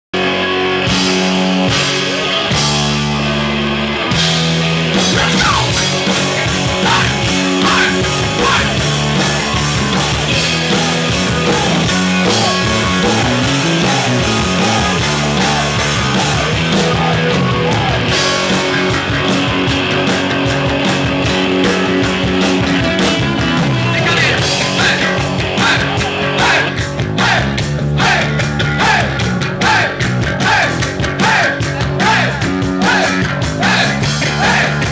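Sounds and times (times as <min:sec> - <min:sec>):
heavy metal band playing: 0:00.2 - 0:34.9
sliding lead guitar: 0:00.2 - 0:34.9.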